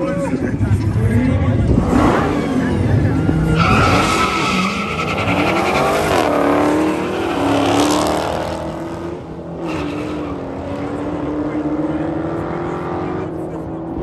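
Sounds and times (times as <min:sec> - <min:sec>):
car engine revving: 0:00.3 - 0:14.0.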